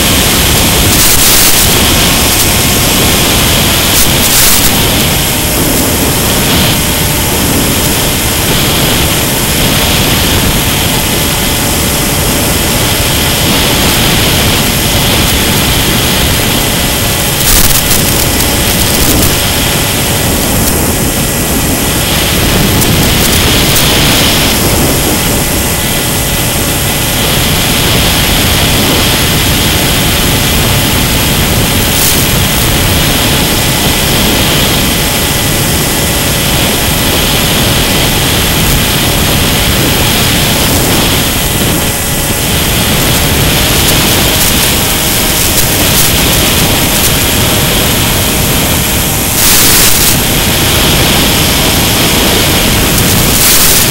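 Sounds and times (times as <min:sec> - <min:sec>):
electric motor propeller drone: 0:00.0 - 0:53.9
wind rush on microphone: 0:00.0 - 0:53.9.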